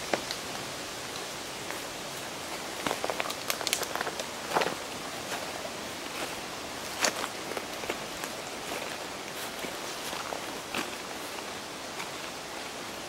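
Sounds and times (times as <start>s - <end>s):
steady background hiss: 0.0s - 13.0s
footsteps on stones and leaves: 1.6s - 12.8s.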